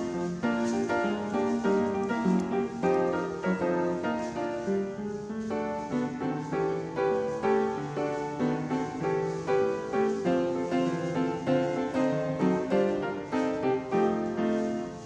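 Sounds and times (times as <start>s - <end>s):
piano tune: 0.0s - 15.0s.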